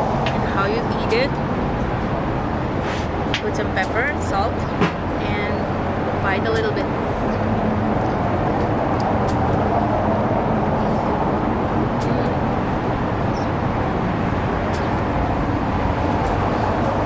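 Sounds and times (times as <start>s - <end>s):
city background rumble and hiss: 0.0s - 17.0s.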